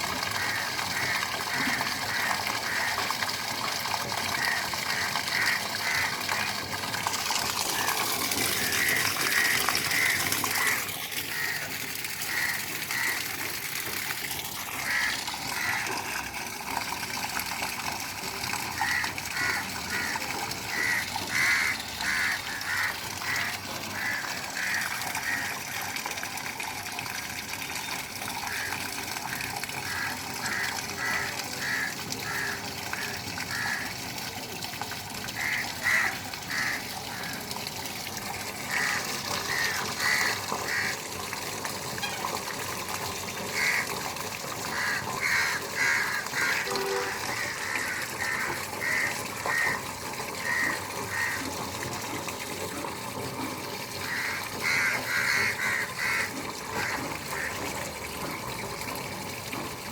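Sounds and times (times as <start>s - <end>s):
rainwater rushing into drain: 0.0s - 59.9s.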